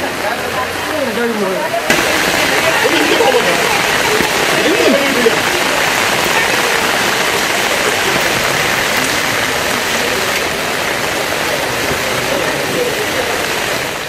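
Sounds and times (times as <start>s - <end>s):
heavy rain falling on water: 0.0s - 14.0s.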